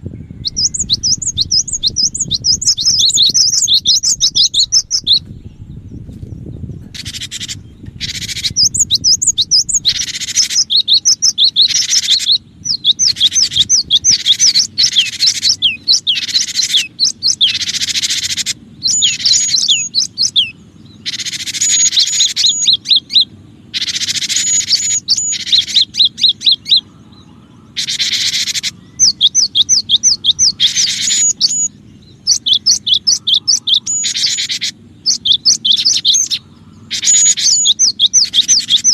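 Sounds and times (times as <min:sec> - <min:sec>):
bird whistled notes and scolding chatter: 0:00.0 - 0:38.9.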